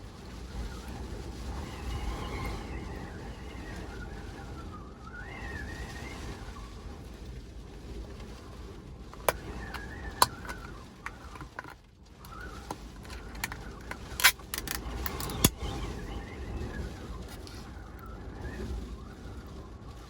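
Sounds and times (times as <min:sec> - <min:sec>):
storm wind rumbling against van: 0:00.0 - 0:20.0.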